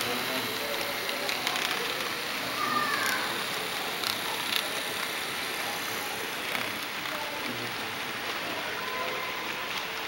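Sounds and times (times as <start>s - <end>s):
model train wheels rolling: 0.0s - 10.0s.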